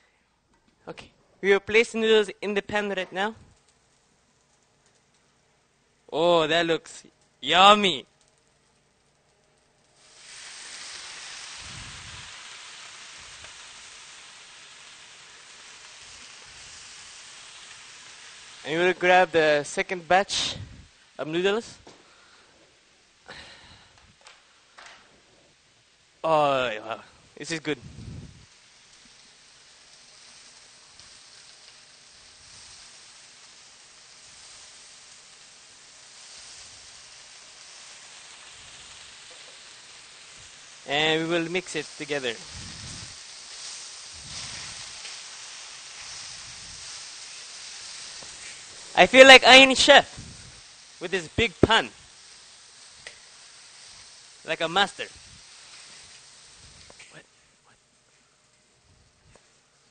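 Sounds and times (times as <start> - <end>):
noodles sizzling in hot oil: 1.6 - 59.9.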